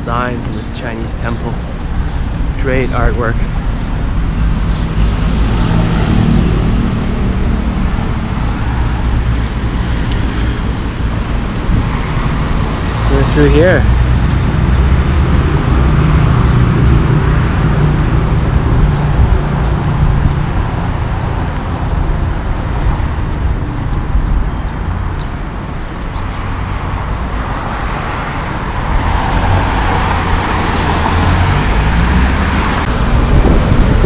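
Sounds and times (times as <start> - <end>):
traffic rumble: 0.0 - 34.0
vehicle engine rumble: 0.0 - 34.0.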